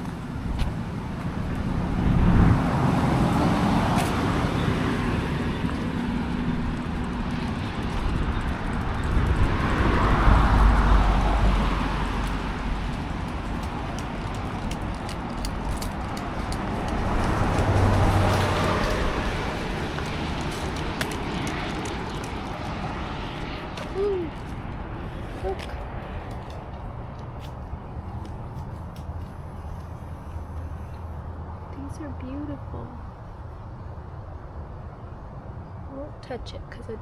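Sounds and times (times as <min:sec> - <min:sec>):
vehicles passing: 0:00.0 - 0:37.0.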